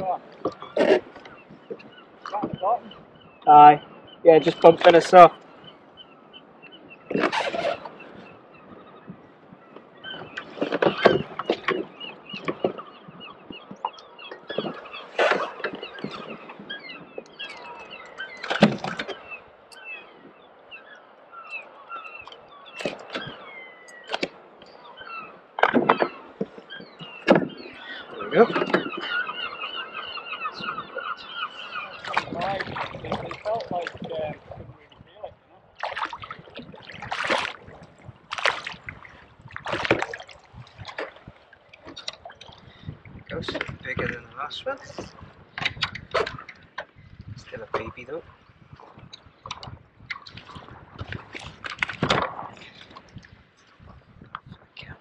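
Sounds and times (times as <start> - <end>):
birds chirping: 0.0 - 55.0
sea water splashing: 0.0 - 55.0.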